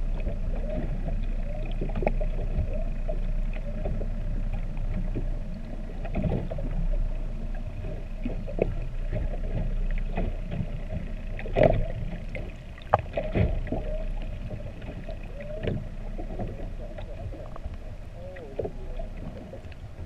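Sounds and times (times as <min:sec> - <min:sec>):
low rumble of water: 0:00.0 - 0:20.0
whale song underwater: 0:00.0 - 0:20.0.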